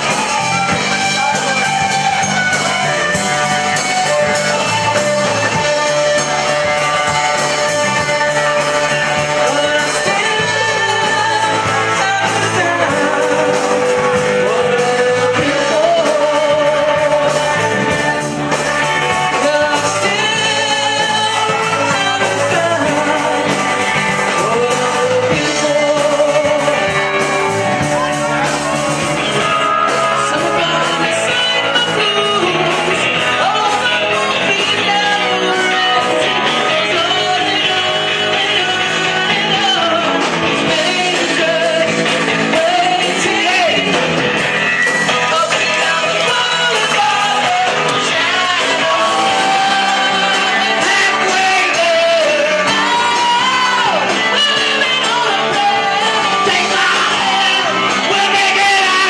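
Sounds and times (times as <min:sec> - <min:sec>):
drums: 0:00.0 - 0:59.0
electric guitar: 0:00.0 - 0:59.0
person singing: 0:00.0 - 0:59.0.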